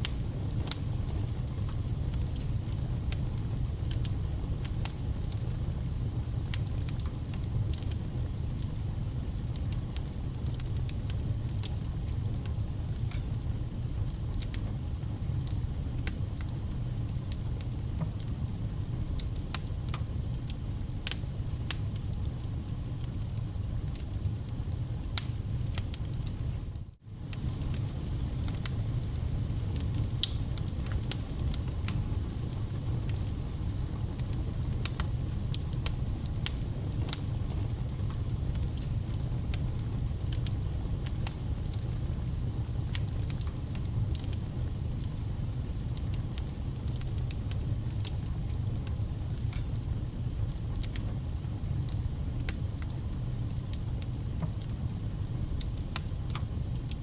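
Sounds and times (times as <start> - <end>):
campfire flame roar: 0.0 - 57.0
logs crackling and popping: 0.0 - 57.0.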